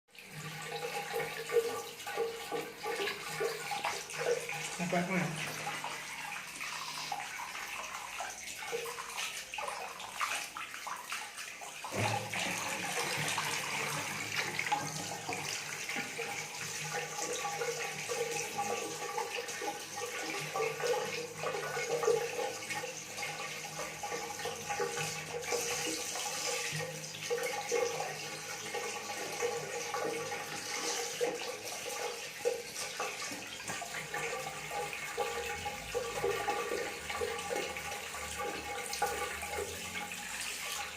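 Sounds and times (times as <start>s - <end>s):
water splashing into a tub: 0.1s - 40.9s.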